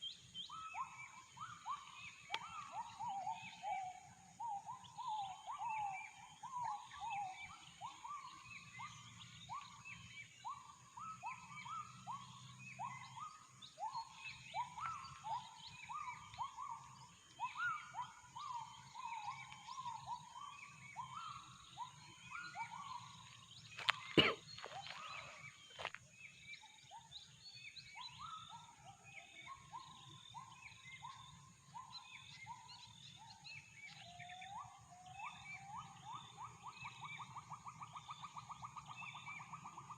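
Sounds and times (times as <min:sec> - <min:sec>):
faint bird calls: 0:00.0 - 0:39.9.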